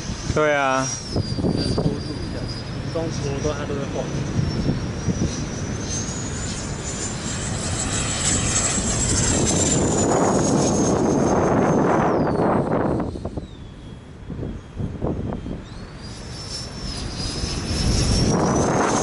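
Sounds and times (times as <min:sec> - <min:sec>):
electric ducted fan whine: 0:00.0 - 0:19.0
wind rumble on microphone: 0:00.0 - 0:19.0.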